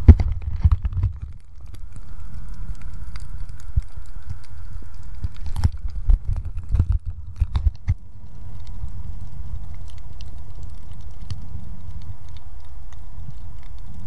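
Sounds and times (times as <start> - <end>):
faint hum: 0.0 - 14.0
underwater rumble of moving water: 0.0 - 14.0.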